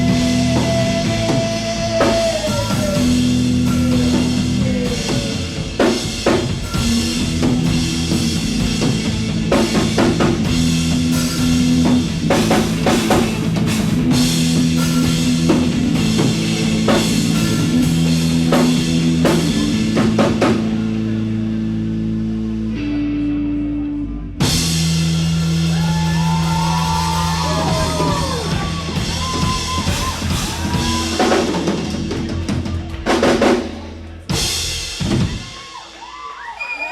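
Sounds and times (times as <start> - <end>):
electric guitar: 0.0 - 33.8
bass notes: 0.0 - 35.4.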